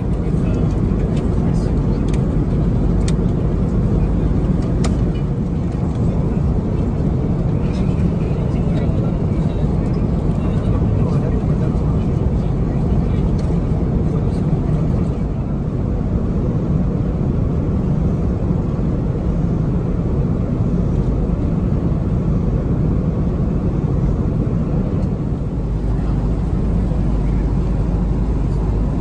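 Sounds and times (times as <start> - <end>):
airplane cabin engine rush: 0.0 - 29.0.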